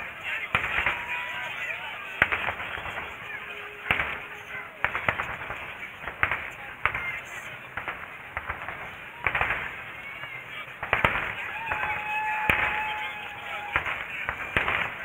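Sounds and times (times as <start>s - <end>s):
crowd voices: 0.0s - 15.0s
fireworks bangs and cracks: 0.0s - 15.0s.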